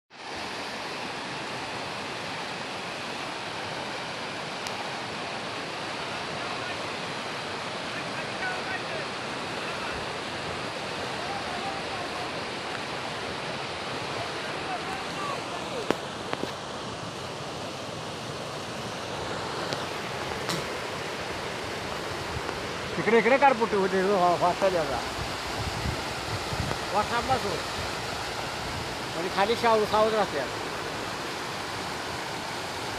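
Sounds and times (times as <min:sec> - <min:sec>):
floodwater rushing: 0:00.1 - 0:32.9.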